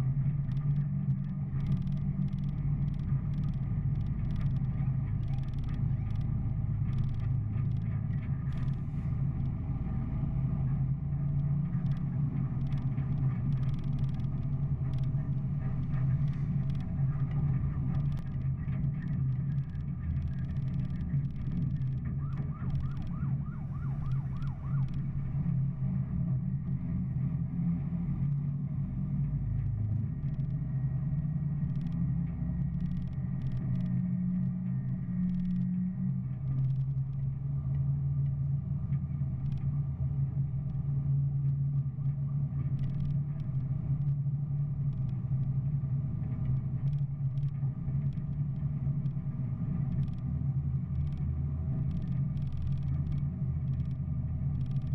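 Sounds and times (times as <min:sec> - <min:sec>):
engine-like drone: 0:00.0 - 0:54.9.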